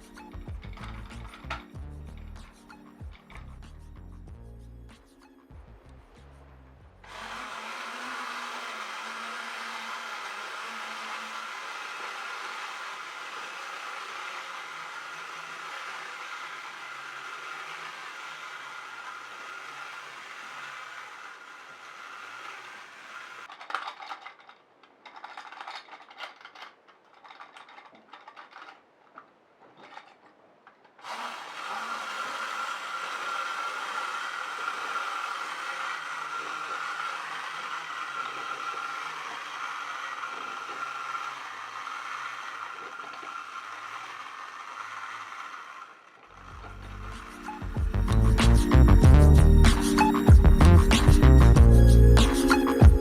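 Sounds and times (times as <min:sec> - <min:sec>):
clockwork toy motor whirring: 0:00.0 - 0:03.8, 0:07.0 - 0:28.9, 0:31.0 - 0:53.0.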